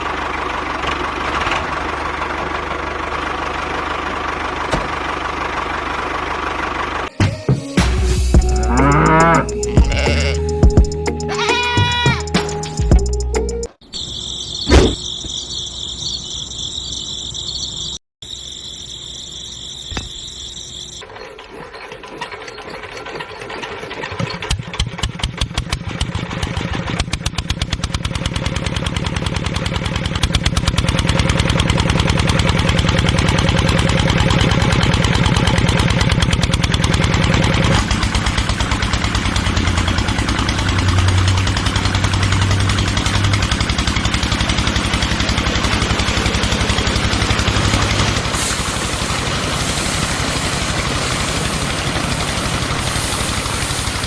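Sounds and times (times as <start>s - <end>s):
tractor engine chugging: 0.0s - 54.0s.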